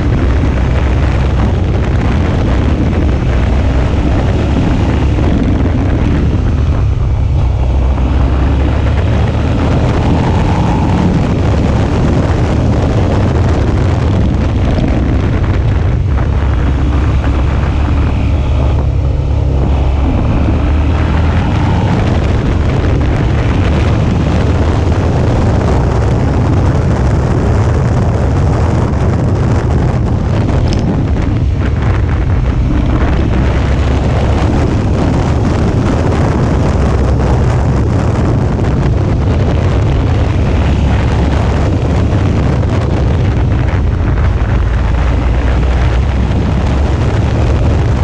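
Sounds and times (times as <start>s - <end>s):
motorcycle engine running: 0.0s - 48.0s
wind noise on microphone: 0.0s - 48.0s.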